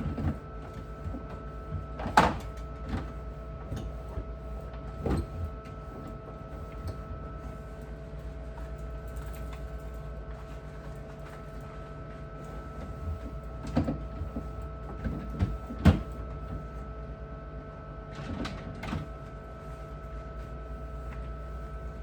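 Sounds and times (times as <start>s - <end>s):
electrical hum: 0.0s - 17.4s, 18.1s - 22.0s.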